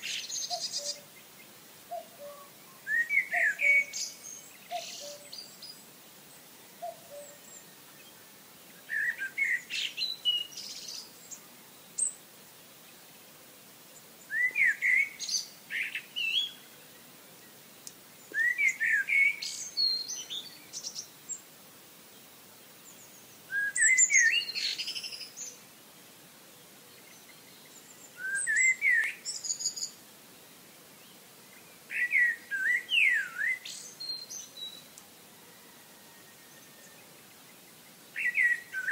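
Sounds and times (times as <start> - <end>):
faint steady hiss: 0.0 - 38.9.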